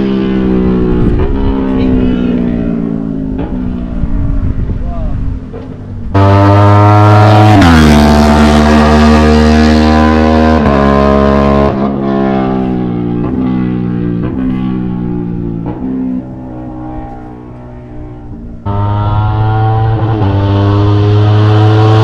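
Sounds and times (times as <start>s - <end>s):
motorcycle passing at speed: 0.0s - 22.0s.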